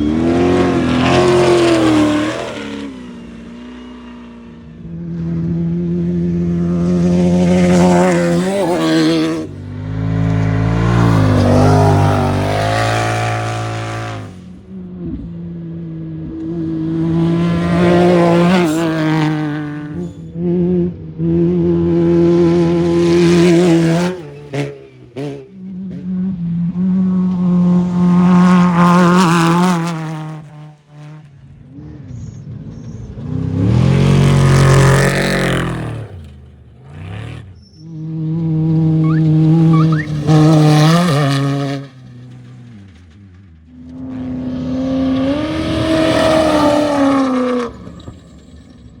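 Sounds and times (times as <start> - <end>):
race vehicle engines passing: 0.0 - 49.0.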